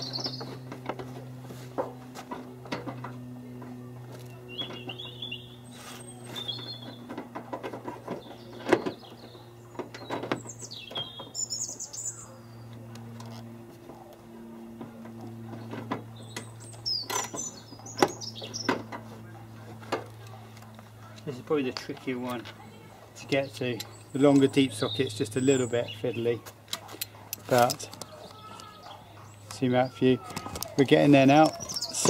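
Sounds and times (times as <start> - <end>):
birds chirping: 0.0 - 32.0
steady low hum: 0.0 - 32.0.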